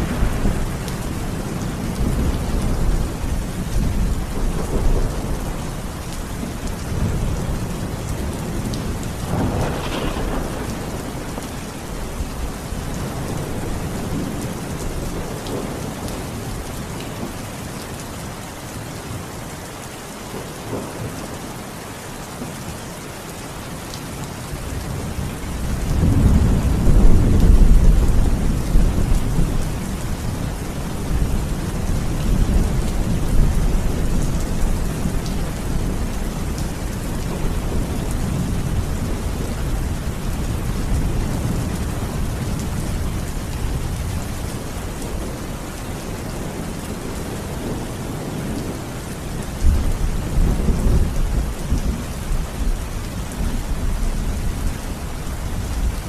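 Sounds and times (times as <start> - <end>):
thunder rumbling: 0.0 - 17.4, 24.8 - 56.0
steady rain falling: 0.0 - 56.0.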